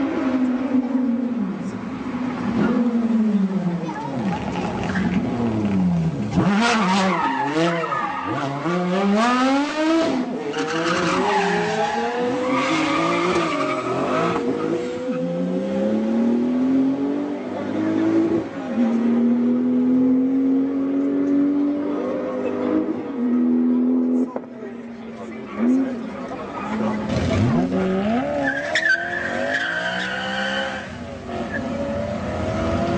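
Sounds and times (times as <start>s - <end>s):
car engines revving hard: 0.0s - 32.9s.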